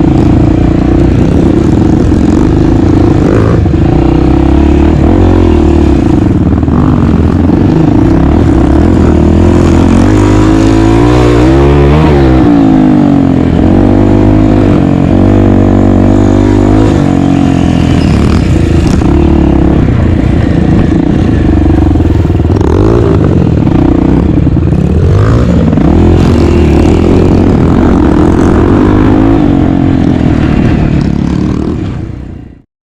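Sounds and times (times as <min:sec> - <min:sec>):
dirt bike engine revving: 0:00.0 - 0:32.1.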